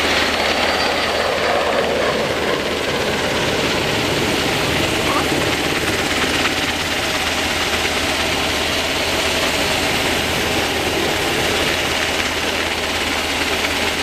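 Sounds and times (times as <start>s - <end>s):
helicopter hovering overhead: 0.0s - 14.0s.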